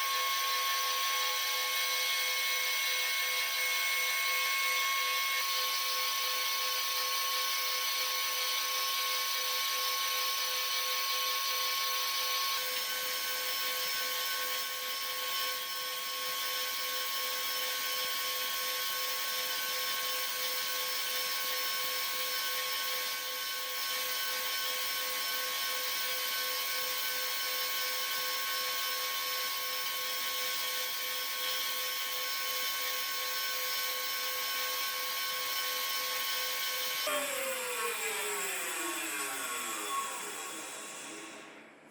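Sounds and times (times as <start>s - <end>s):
engraving machine spindle whine: 0.0s - 41.8s.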